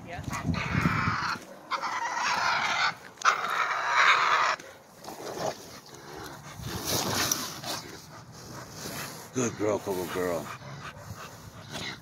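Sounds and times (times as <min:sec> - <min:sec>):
animals snarling: 0:00.2 - 0:12.0.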